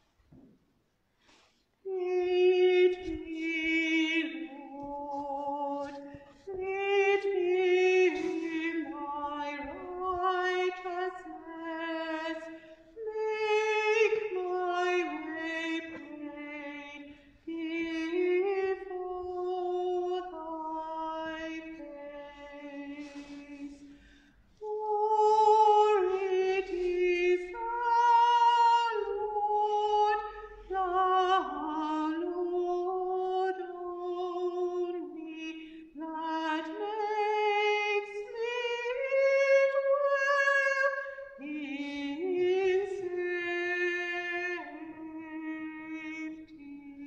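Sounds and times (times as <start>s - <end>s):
woman singing a hymn: 1.8s - 23.9s, 24.6s - 47.0s.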